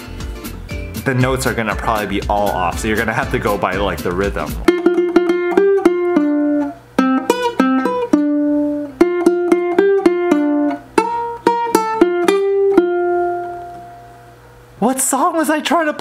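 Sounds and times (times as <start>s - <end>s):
ukulele melody: 0.0s - 14.1s.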